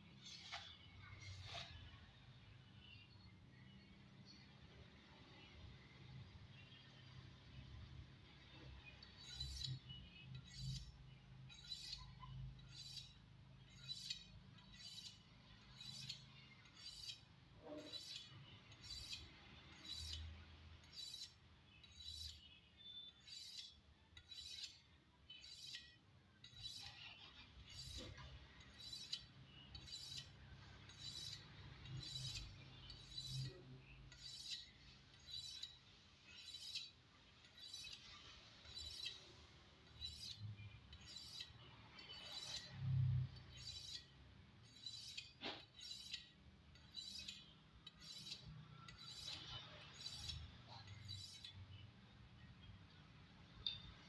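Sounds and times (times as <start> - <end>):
knife scraping on honing steel: 0.1 - 2.0, 8.5 - 51.8.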